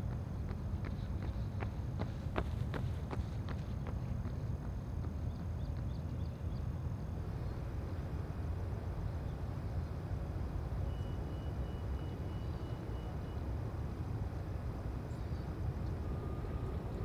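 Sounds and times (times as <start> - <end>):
distant motors rumbling: 0.0 - 17.0.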